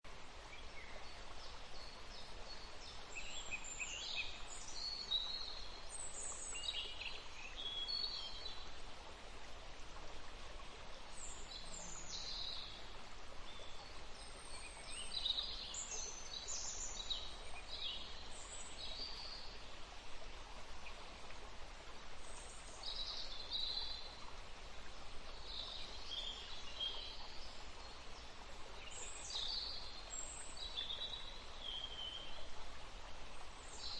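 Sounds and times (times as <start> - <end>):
steady background hiss: 0.1 - 33.9.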